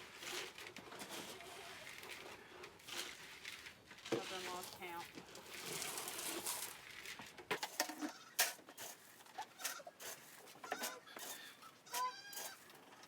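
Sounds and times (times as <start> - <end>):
feed scooped and poured rattling: 0.0 - 13.0.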